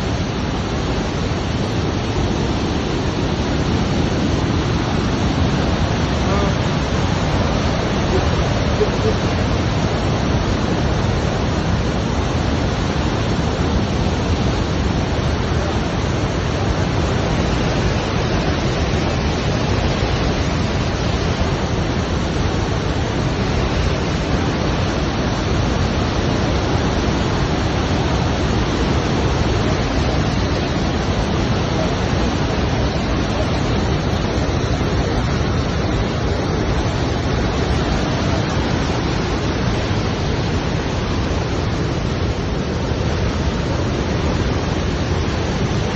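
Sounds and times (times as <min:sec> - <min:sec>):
rush of falling water: 0:00.0 - 0:45.9.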